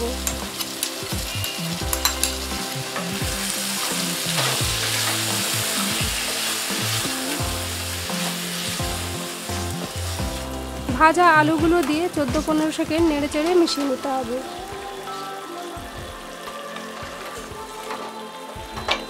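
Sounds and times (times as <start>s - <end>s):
food sizzling in oil: 0.0s - 19.0s
soft background music: 0.0s - 19.0s.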